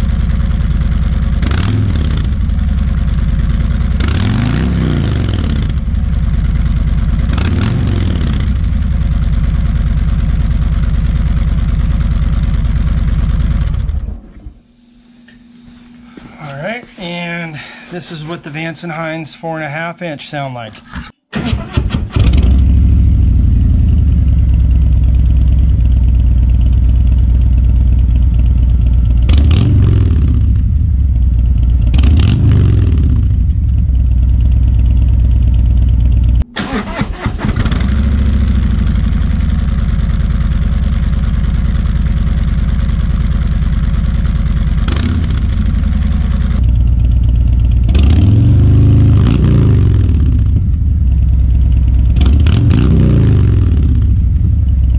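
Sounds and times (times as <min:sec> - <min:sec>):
motorcycle engine idling: 0:00.0 - 0:14.2, 0:22.7 - 0:36.5, 0:37.6 - 0:52.7, 0:53.3 - 0:54.9.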